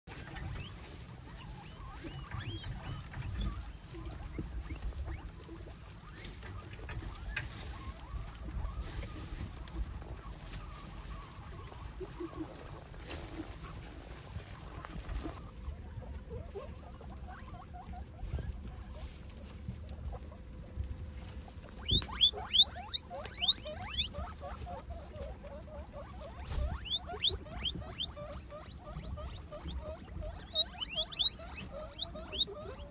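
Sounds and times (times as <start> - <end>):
guinea pigs chewing: 0.1 - 32.9
guinea pigs squeaking: 0.1 - 32.9
rustling leaves and hay: 0.1 - 32.9.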